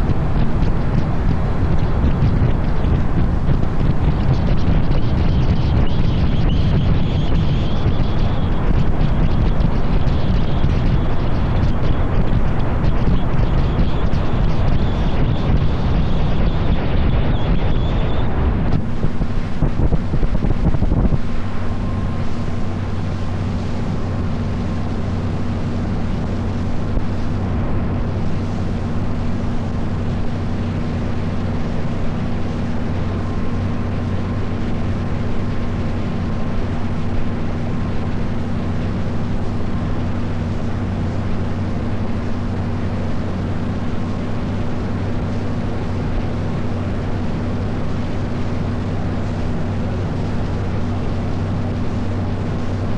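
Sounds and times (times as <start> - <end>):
motor boat engine running: 0.0 - 52.9
wind noise on microphone: 0.0 - 52.9.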